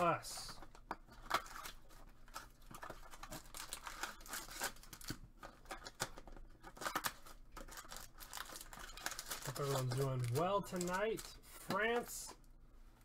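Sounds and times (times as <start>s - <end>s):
packaging crinkling and tearing: 1.2s - 12.1s.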